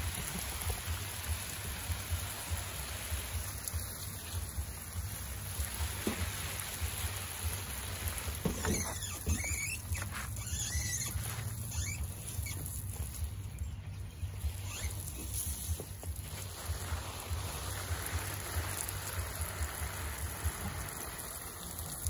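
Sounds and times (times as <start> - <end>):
light patter: 3.4 - 22.0.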